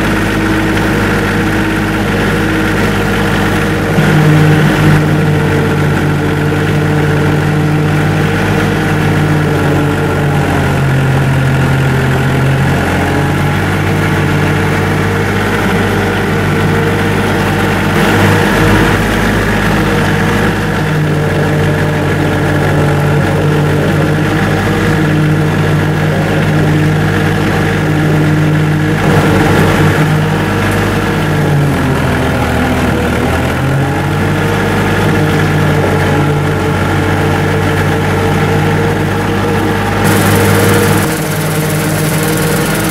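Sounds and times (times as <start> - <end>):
rotary mower cutting grass: 0.0 - 42.9
tractor diesel engine running: 0.0 - 42.9.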